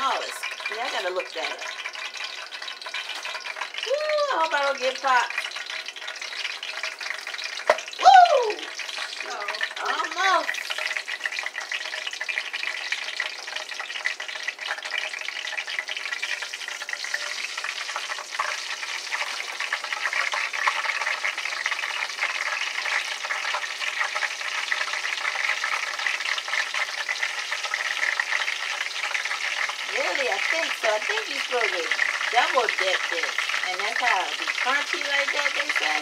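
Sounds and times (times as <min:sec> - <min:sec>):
scallops sizzling in hot oil: 0:00.0 - 0:36.0.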